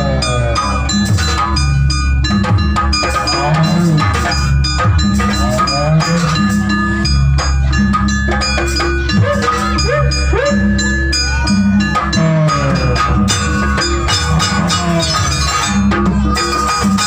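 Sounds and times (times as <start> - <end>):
low drum beat: 0.0 - 17.0
metal mallet-struck instruments ringing: 0.0 - 17.0.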